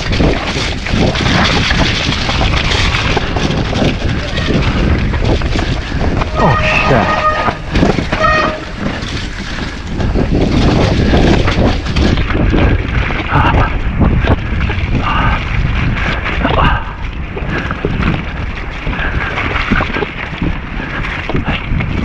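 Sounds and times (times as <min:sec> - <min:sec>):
bike frame and chain rattling: 0:00.0 - 0:22.0
tyres rumbling on wet trail: 0:00.0 - 0:22.0
wind buffeting microphone: 0:00.0 - 0:22.0.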